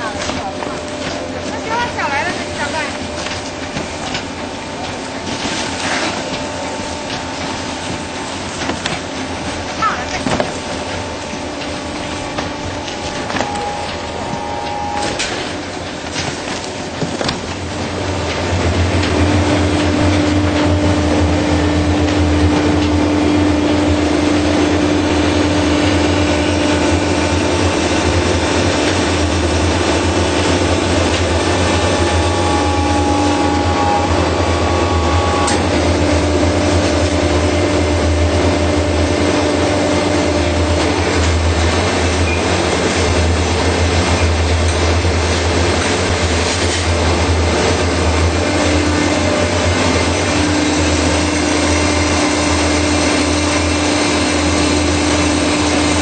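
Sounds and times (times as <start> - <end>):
baler machine humming: 0.0 - 56.0
machine whining: 0.0 - 56.0.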